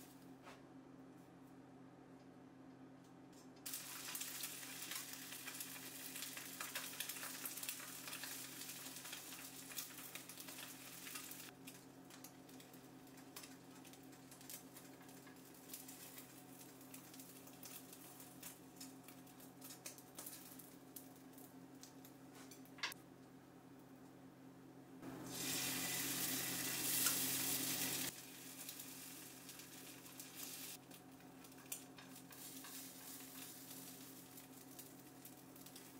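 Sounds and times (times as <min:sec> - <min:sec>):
oil sizzling in a frying pan: 0:03.7 - 0:23.0, 0:25.1 - 0:35.9.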